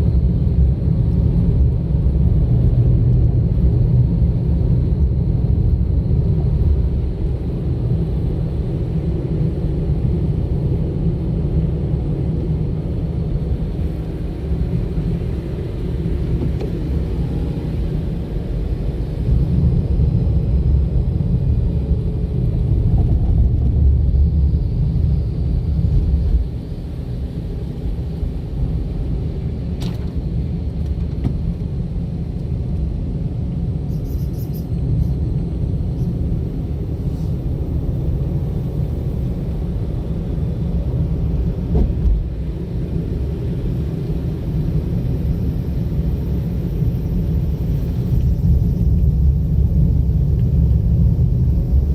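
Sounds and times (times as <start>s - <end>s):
car driving on road: 0.0s - 51.9s.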